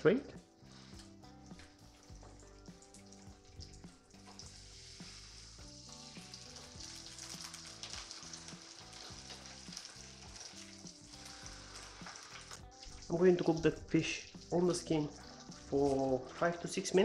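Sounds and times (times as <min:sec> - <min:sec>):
fish fillets sizzling in a frying pan: 0:00.6 - 0:17.0.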